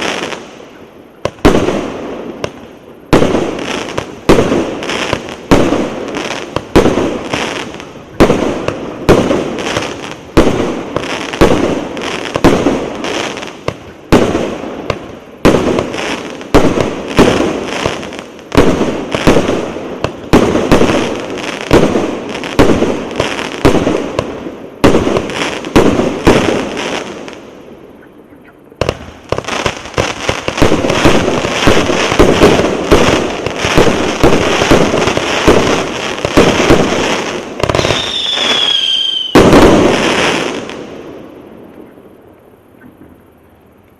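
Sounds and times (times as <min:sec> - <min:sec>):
fireworks bangs: 0:00.0 - 0:27.9, 0:28.8 - 0:42.0
fireworks crackling: 0:00.0 - 0:28.0, 0:28.6 - 0:42.4.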